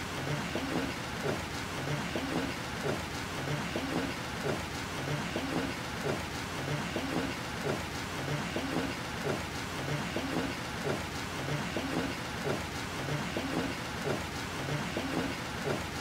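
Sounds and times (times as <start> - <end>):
low rain patter: 0.0 - 16.0.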